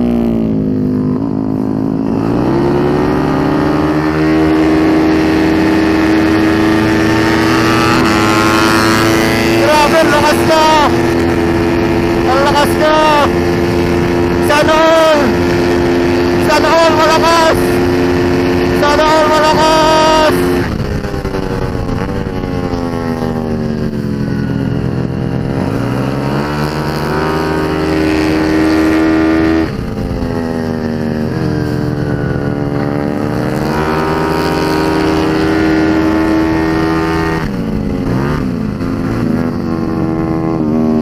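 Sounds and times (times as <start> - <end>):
scooter engine at high revs: 0.0 - 41.0.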